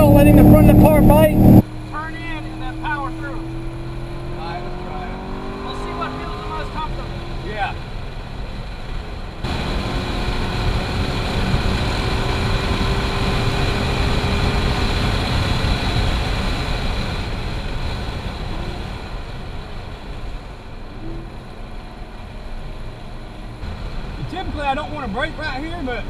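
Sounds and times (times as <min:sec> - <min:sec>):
car engine running under load: 0:00.0 - 0:26.0
road and wind noise: 0:00.0 - 0:26.0.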